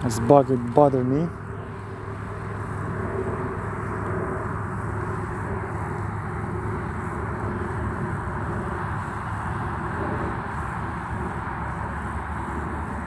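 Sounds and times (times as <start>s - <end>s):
low hum: 0.0s - 13.0s
outdoor background noise: 0.0s - 13.0s.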